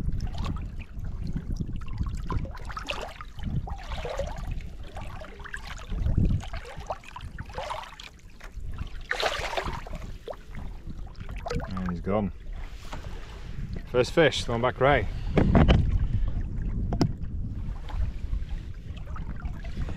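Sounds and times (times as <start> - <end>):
water sloshing and splashing: 0.0 - 19.9
wind buffeting microphone: 0.0 - 19.9.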